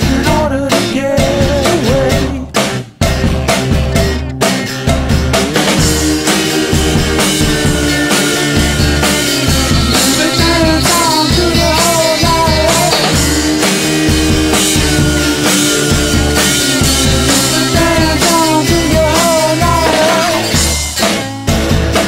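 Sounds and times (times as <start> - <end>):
rock music with singing: 0.0 - 22.0.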